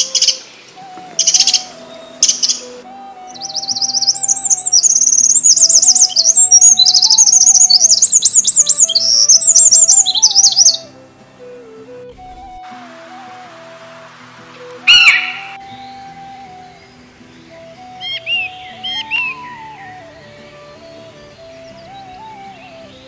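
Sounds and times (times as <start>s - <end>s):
songbird chirping and trilling: 0.0s - 13.4s, 14.4s - 23.0s
soft background music: 0.0s - 23.0s.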